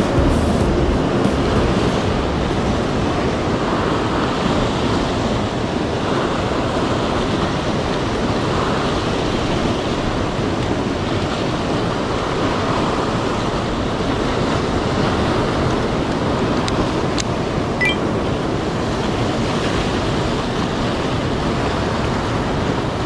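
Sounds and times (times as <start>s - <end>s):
surf breaking on rocky shore: 0.0s - 23.0s.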